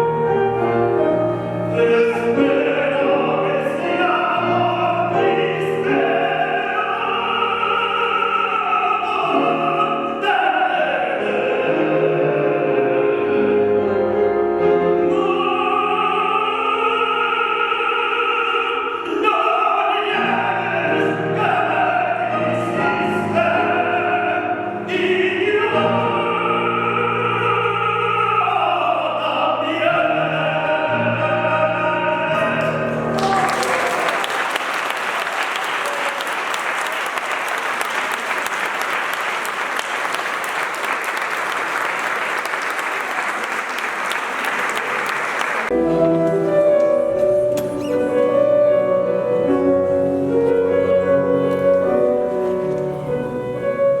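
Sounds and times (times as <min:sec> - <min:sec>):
classical singing: 0:00.0 - 0:54.0
piano accompaniment: 0:00.0 - 0:54.0.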